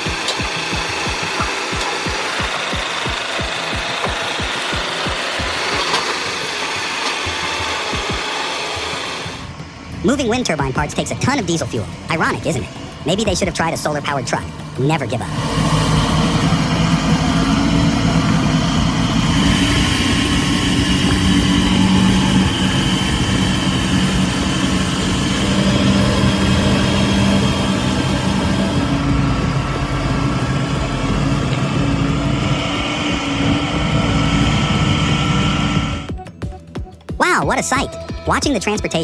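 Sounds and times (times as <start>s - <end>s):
diesel truck engine running: 0.0s - 39.0s.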